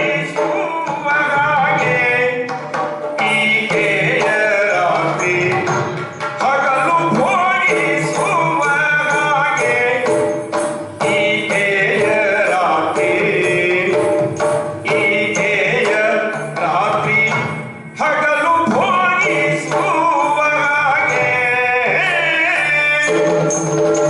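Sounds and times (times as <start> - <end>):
drum strokes: 0.0 - 24.0.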